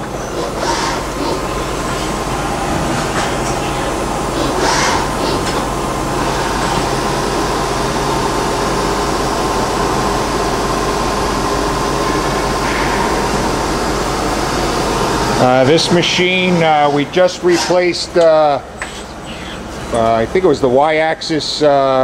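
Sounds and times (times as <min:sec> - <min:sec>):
cooling fans whirring: 0:00.0 - 0:22.0
electrical hum: 0:00.0 - 0:22.0.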